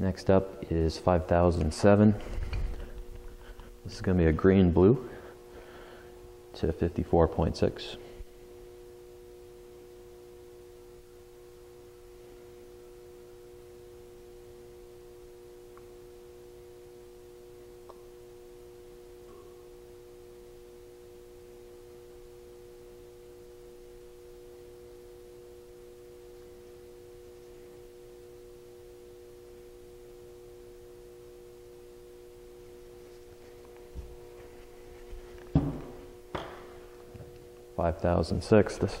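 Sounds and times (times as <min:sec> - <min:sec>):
faint two-tone hum: 0:00.0 - 0:39.0.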